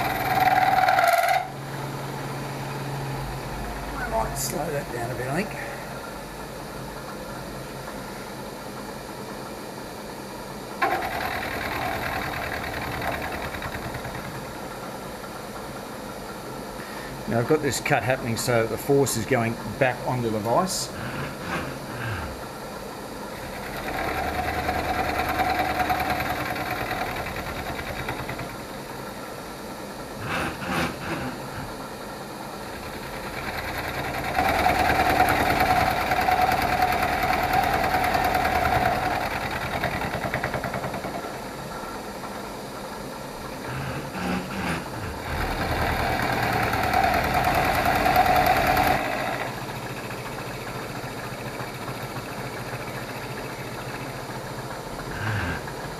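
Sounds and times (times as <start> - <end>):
milling machine cutting whine: 0.0 - 7.6, 10.5 - 55.9
milling machine spindle running: 0.0 - 55.9.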